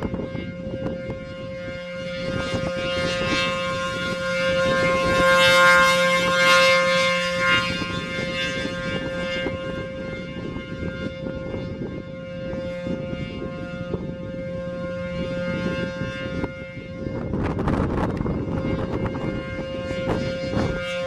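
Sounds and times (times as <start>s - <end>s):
warning siren steady tone: 0.0s - 21.0s
wind buffeting microphone: 0.0s - 21.0s.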